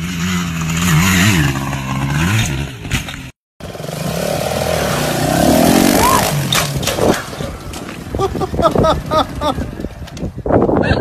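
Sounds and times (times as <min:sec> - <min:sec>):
small dirt bike engine revving: 0:00.0 - 0:09.9
dirt bike engine revving: 0:00.0 - 0:10.0.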